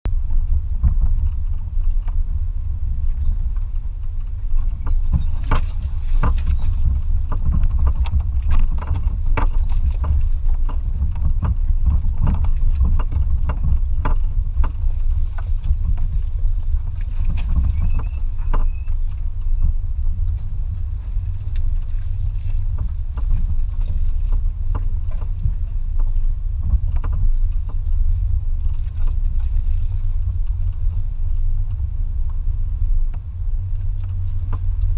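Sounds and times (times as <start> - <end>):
vehicle engine rumble: 0.0 - 34.9.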